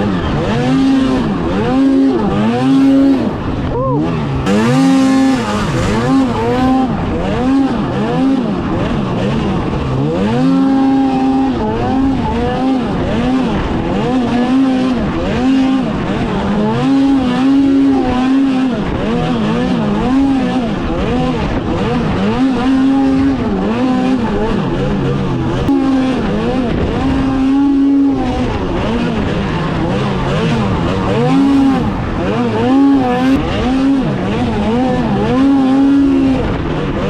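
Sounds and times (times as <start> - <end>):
snowmobile engine revving: 0.0 - 37.0.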